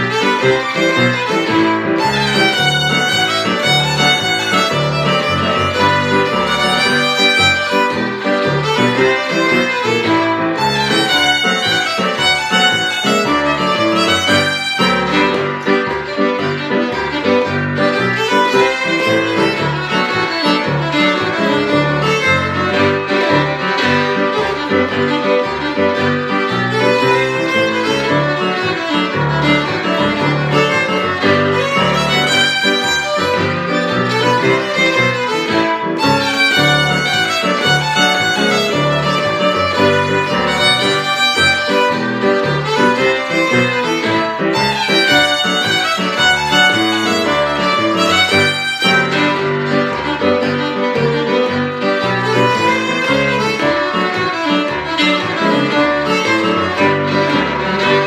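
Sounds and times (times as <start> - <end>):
fiddle playing a jig: 0.0 - 58.0
piano accompaniment: 0.0 - 58.0.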